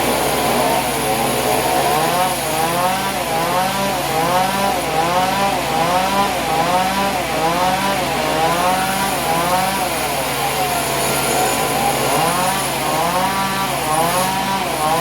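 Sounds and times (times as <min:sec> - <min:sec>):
sawmill saw cutting wood: 0:00.0 - 0:15.0.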